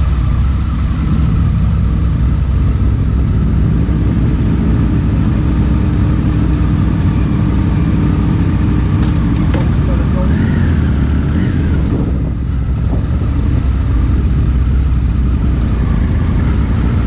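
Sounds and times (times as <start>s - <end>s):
motorcycle engine running at low revs: 0.0s - 17.0s.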